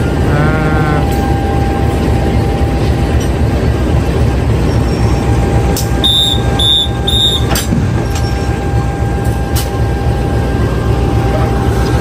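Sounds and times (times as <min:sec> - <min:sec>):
locomotive idling: 0:00.0 - 0:12.0.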